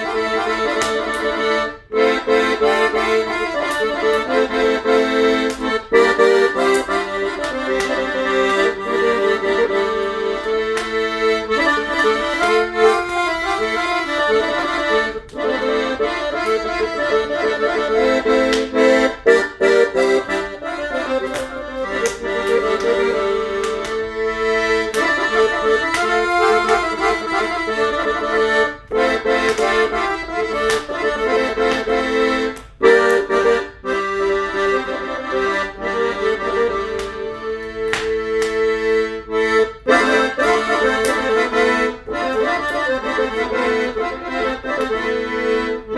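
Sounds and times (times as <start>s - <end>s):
accordion playing a melody: 0.0s - 45.9s.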